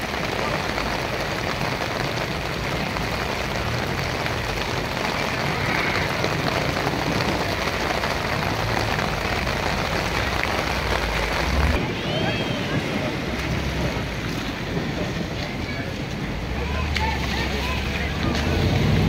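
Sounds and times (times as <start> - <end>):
car passing on wet road: 0.0 - 19.0
torrential rain on paving: 0.0 - 19.0.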